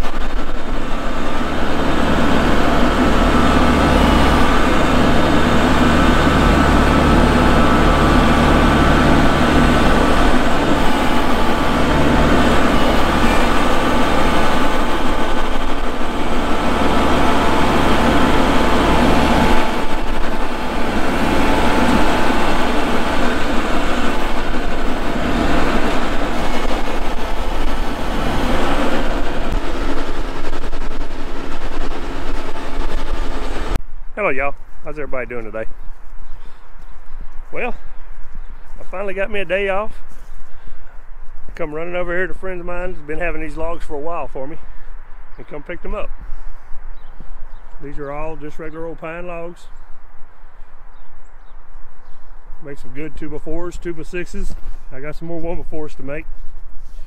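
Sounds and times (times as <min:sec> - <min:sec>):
tractor diesel engine running: 0:00.0 - 0:51.2, 0:51.8 - 0:57.0.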